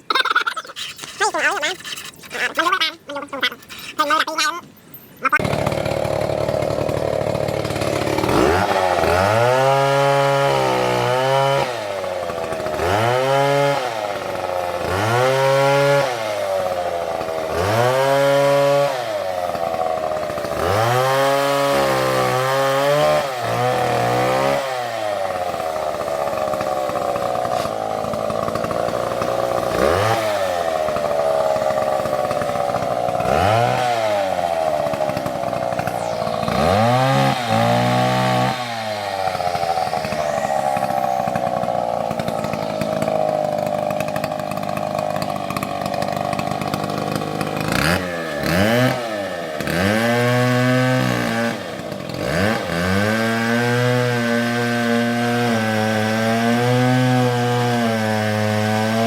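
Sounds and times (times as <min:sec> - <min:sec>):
chainsaw cutting timber: 0:00.0 - 0:59.0.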